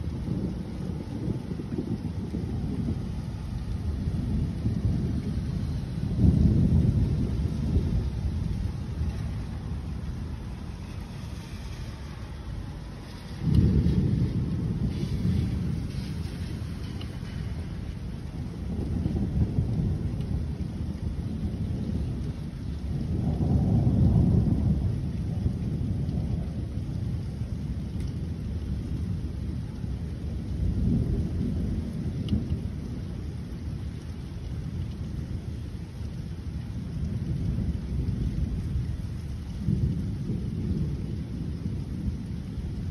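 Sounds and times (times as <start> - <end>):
steady rain: 0.0 - 42.9
thunder rumbling: 0.0 - 42.9.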